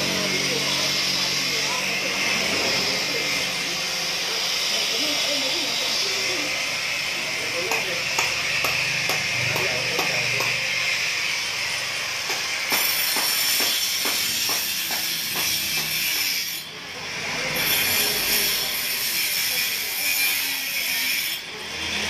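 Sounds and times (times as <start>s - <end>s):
angle grinder cutting concrete: 0.0s - 22.0s.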